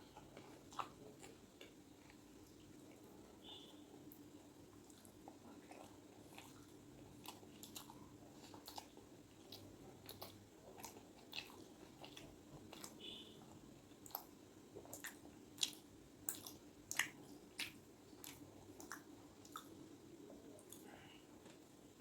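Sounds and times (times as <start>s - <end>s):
person chewing food: 0.0s - 3.1s, 4.1s - 21.6s.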